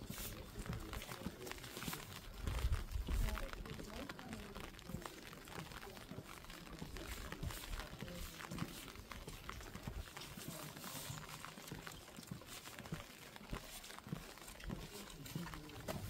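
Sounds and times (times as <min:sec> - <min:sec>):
footsteps on wet pavement: 0:00.0 - 0:16.0
water dripping and tapping: 0:00.0 - 0:16.0.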